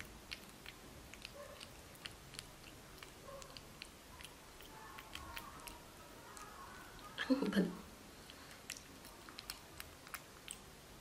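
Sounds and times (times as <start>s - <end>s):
monkey mouth clicks and smacks: 0.0s - 6.6s, 8.2s - 10.7s.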